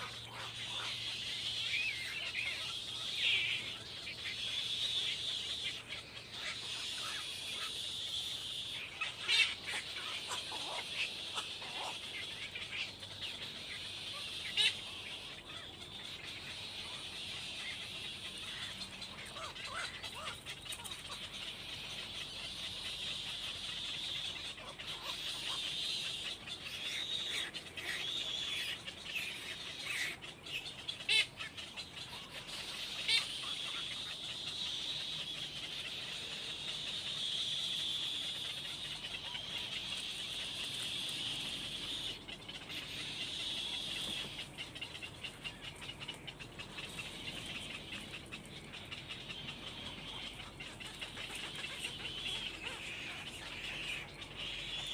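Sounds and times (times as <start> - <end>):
birds cheeping: 0.0 - 54.9.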